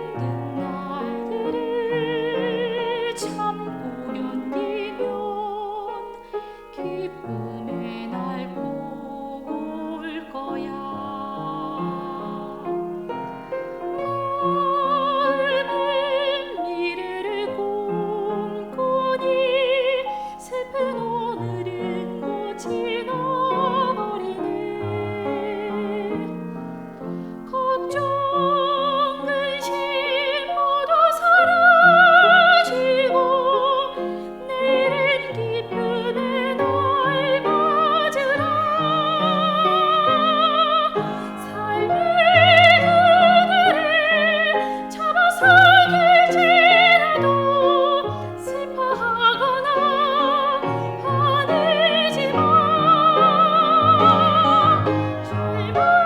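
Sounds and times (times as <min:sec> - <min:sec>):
operatic singing: 0:00.0 - 0:56.0
piano accompaniment: 0:00.0 - 0:56.0.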